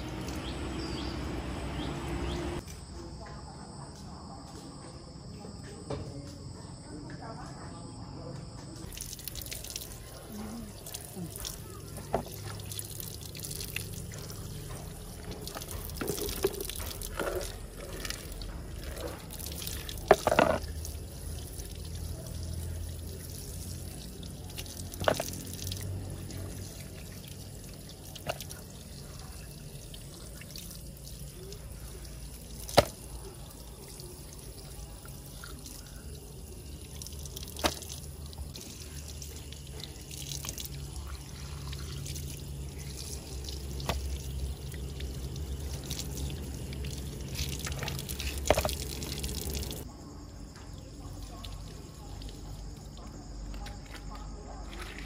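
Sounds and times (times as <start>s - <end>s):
water splashing and trickling: 0.0s - 2.6s, 8.8s - 55.0s.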